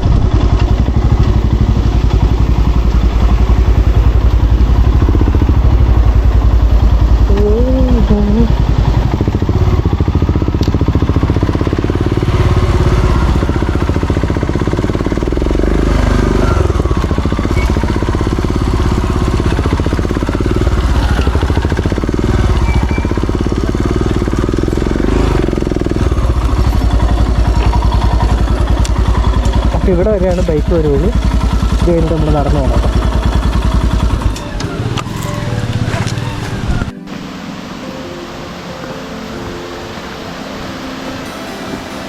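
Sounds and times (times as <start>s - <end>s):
motorcycle engine running: 0.0s - 41.4s.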